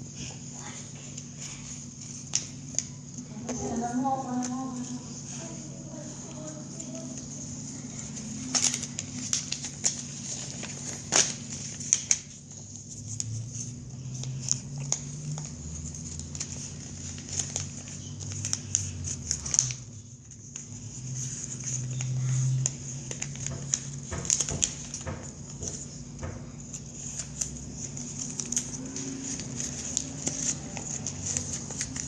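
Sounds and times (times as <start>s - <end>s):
paper crinkling and folding: 0.0s - 32.0s.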